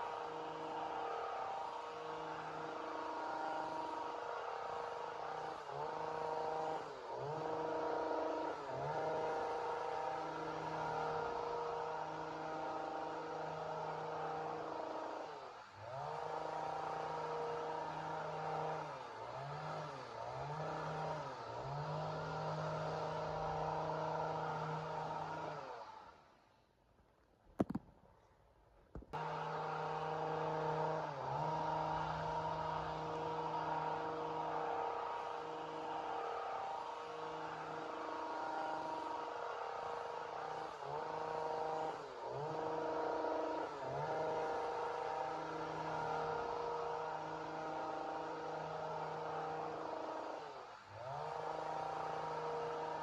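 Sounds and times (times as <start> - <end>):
chainsaw engine at high revs: 0.0 - 26.3, 29.1 - 53.0.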